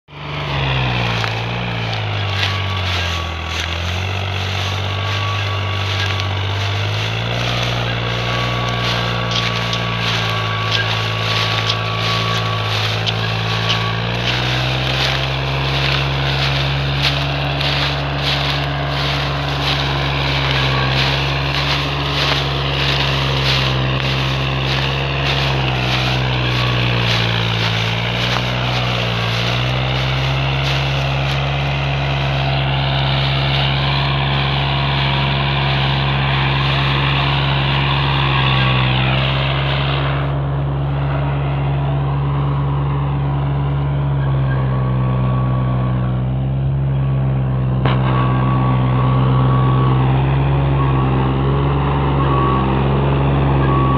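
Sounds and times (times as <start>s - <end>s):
tractor diesel engine labouring: 0.0s - 53.9s.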